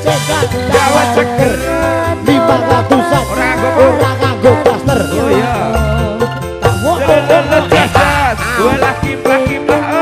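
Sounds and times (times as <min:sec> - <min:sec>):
electronic keyboard: 0:00.0 - 0:10.0
gamelan percussion: 0:00.0 - 0:10.0
steady bass line: 0:00.0 - 0:10.0.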